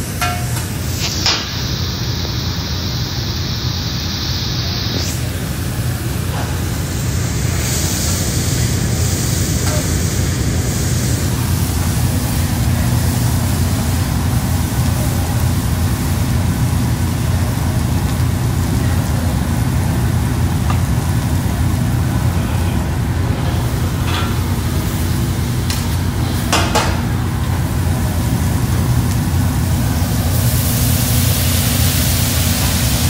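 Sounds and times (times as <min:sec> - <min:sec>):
high hiss: 0:00.0 - 0:16.4, 0:21.0 - 0:33.0
ventilation rumble: 0:00.0 - 0:33.0.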